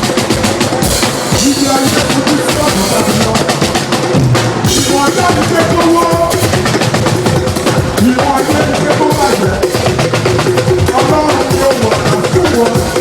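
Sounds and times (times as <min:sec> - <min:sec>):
drum kit playing busy beat: 0:00.0 - 0:13.0.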